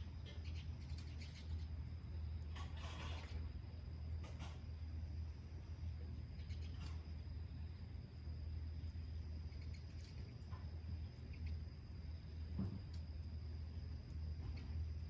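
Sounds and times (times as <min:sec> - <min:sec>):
constant low hum: 0:00.0 - 0:15.0
insects chirping: 0:00.0 - 0:15.0.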